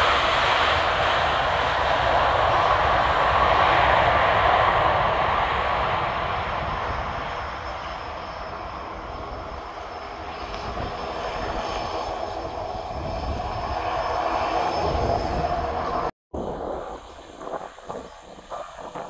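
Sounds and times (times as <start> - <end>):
jet engines roaring with whine: 0.0 - 19.0.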